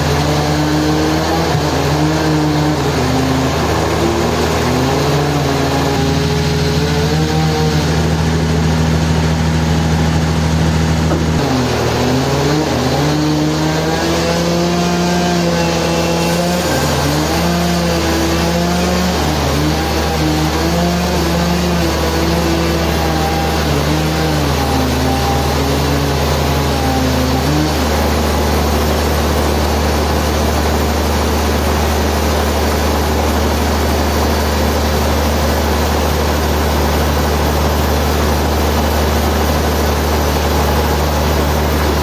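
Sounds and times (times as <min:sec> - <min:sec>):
sawmill machinery engine running: 0:00.0 - 0:42.0.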